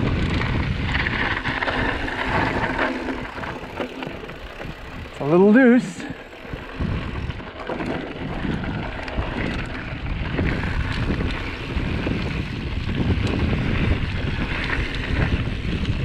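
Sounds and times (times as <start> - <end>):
bike tyres rolling over dirt: 0.0 - 16.0
wind rushing over microphone: 0.0 - 16.0.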